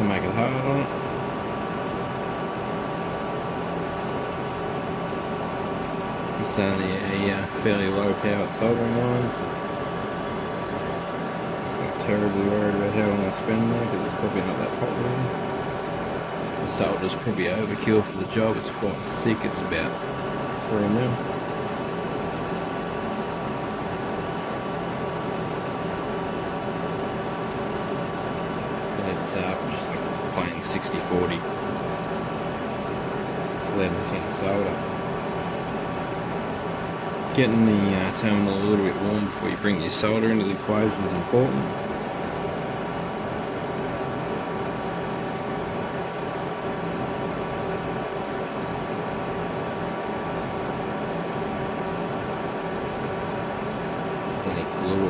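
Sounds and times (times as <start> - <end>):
cooling fan hum and hiss: 0.0 - 55.0.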